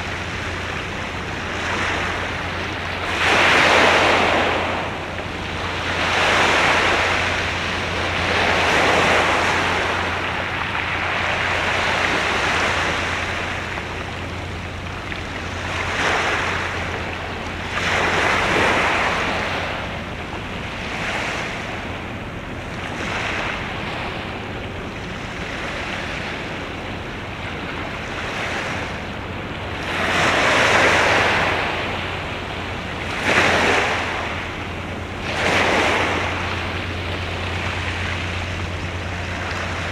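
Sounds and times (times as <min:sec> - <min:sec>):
sea waves washing on shore: 0:00.0 - 0:39.9
steady low hum: 0:00.0 - 0:39.9.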